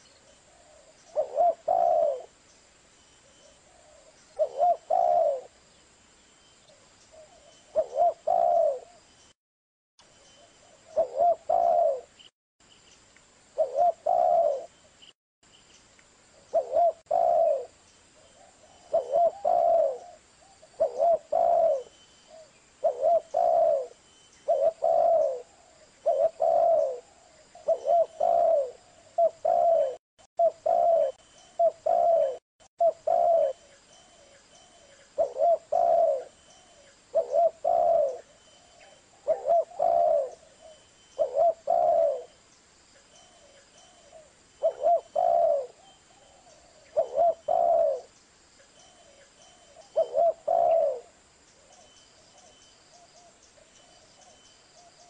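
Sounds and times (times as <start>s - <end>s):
dove cooing: 0.0s - 2.4s, 3.5s - 5.6s, 7.1s - 9.0s, 10.6s - 12.2s, 13.6s - 14.7s, 16.5s - 42.4s, 43.3s - 48.1s, 48.9s - 55.0s.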